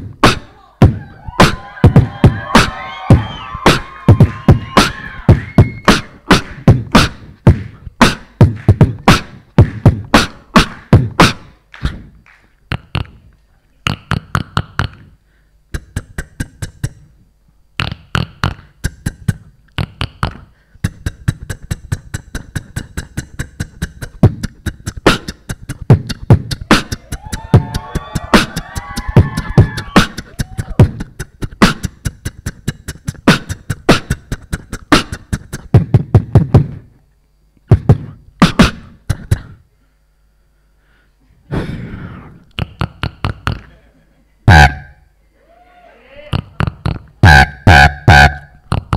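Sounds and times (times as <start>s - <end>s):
beatboxing drum-like beat: 0.0s - 17.2s, 17.8s - 37.0s, 37.6s - 39.7s, 41.5s - 43.8s, 44.5s - 45.0s, 46.3s - 48.9s.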